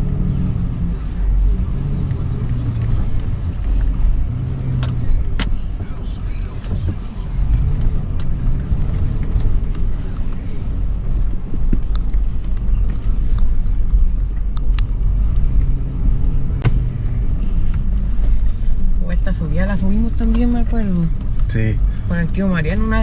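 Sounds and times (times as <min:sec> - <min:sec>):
suv engine rumbling: 0:00.0 - 0:23.0.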